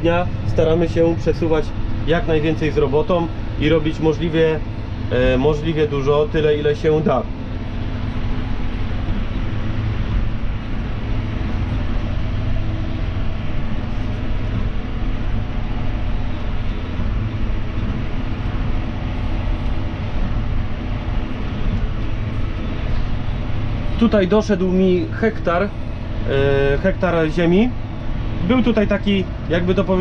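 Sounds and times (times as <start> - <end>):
diesel tractor engine under load: 0.0 - 30.0.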